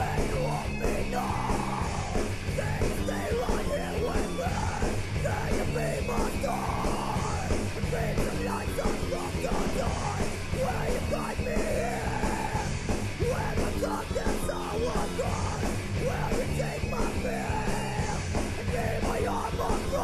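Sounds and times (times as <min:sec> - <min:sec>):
rock music with shouted vocals: 0:00.0 - 0:20.0.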